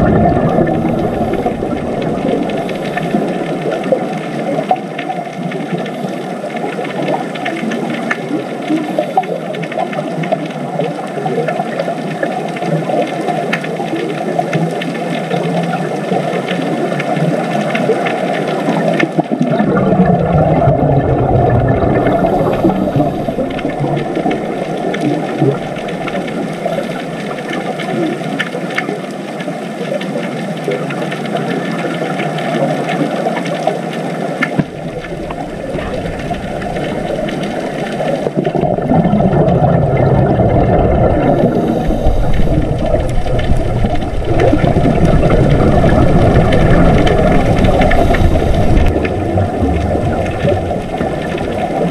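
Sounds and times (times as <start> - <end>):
faint underwater clicks: 0.0 - 51.9
muffled underwater rumble: 0.0 - 51.9.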